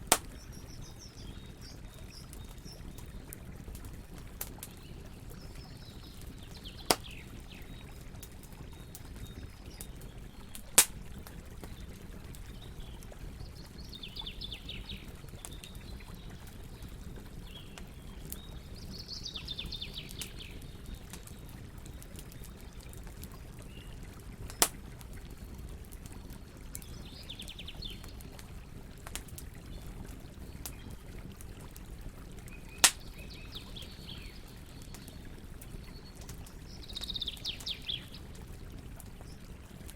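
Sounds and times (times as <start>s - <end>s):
campfire crackling and popping: 0.0s - 39.9s
flowing water: 0.0s - 39.9s.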